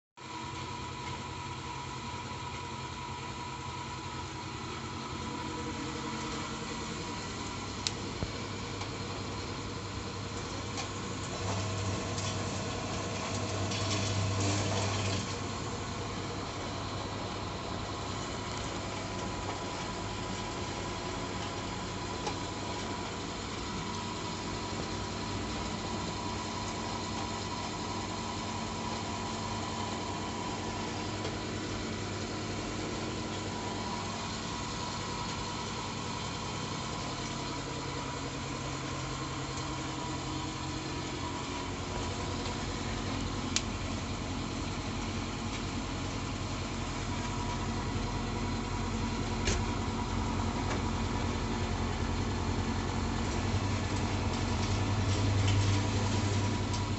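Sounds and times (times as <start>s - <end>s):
boiler mechanical hum: 0.2s - 56.9s.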